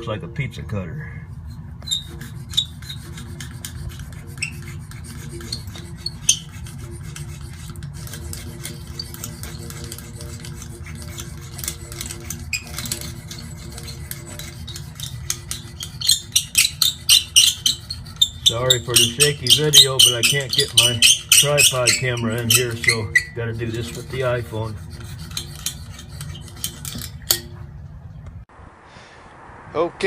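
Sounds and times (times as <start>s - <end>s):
steady low hum: 0.0s - 30.0s
stitching roller rasping on rubber: 1.8s - 27.4s.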